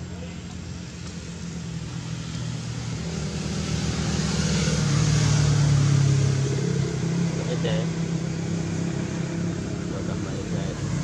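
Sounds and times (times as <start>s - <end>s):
vehicle driving past: 0.0s - 11.0s.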